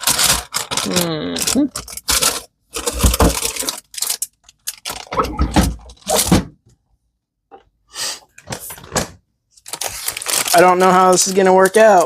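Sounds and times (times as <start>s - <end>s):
packaging rustling: 0.0s - 6.4s, 8.4s - 12.0s.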